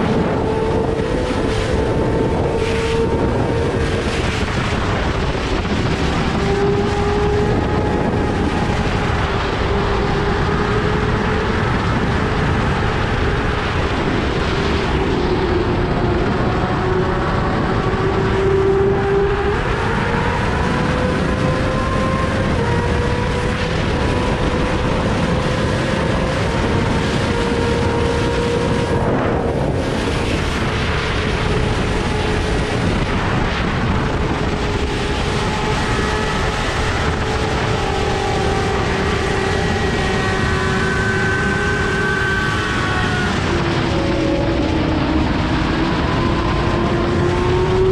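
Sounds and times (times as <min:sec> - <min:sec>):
motorcycle engine running hard: 0:00.0 - 0:47.9
wind rush: 0:00.0 - 0:47.9.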